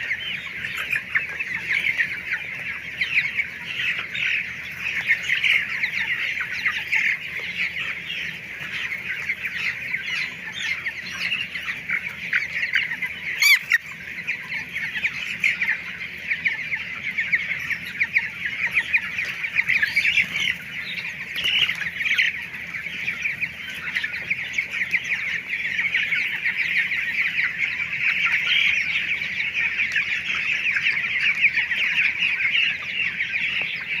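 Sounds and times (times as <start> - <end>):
chickens cheeping in chorus: 0.0 - 34.0.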